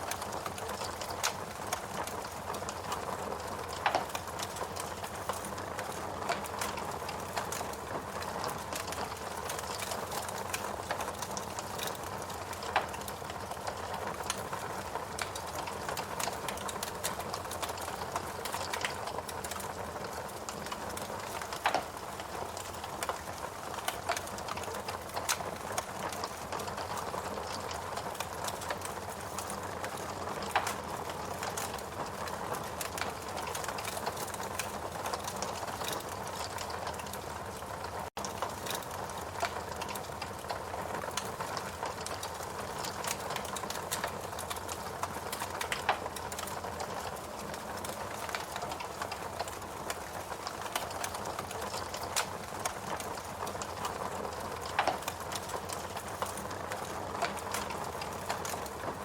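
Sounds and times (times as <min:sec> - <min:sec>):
wood fire crackling: 0:00.0 - 0:59.0
fire popping: 0:00.1 - 0:59.0.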